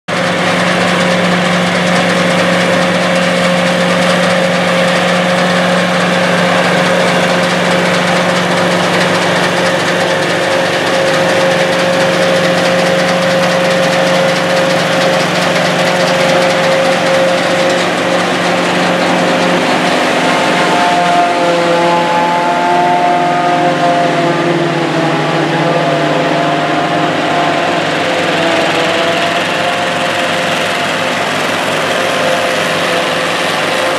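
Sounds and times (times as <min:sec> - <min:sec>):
forage harvester engine droning: 0:00.1 - 0:33.9.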